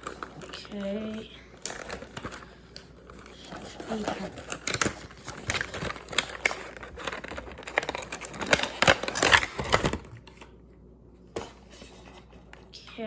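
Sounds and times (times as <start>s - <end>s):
plastic packaging rustling: 0.0s - 10.5s.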